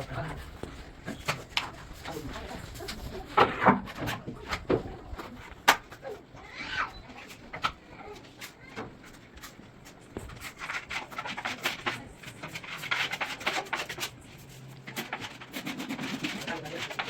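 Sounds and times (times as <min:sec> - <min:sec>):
scratching and scraping: 0:00.0 - 0:17.0.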